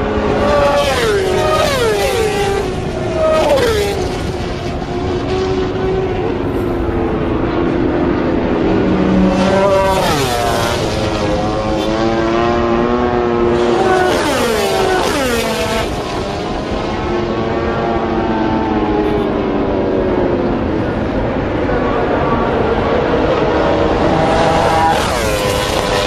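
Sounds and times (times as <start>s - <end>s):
motorcycle engines at high revs: 0.0s - 26.0s.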